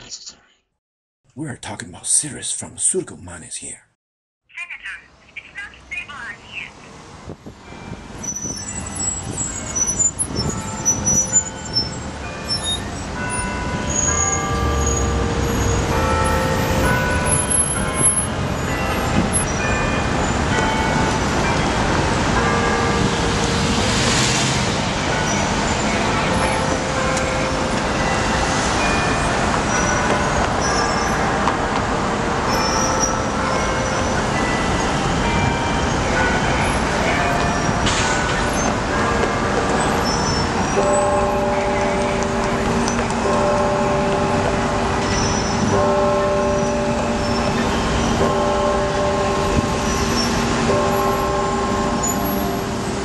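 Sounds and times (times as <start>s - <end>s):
passing vehicles rumbling: 6.4s - 53.0s.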